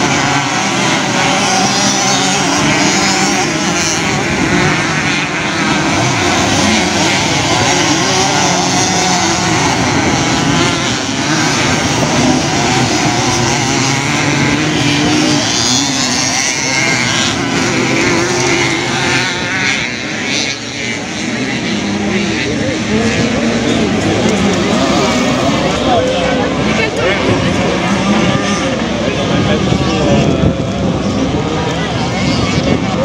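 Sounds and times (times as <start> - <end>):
motocross bike engines racing: 0.0 - 33.0.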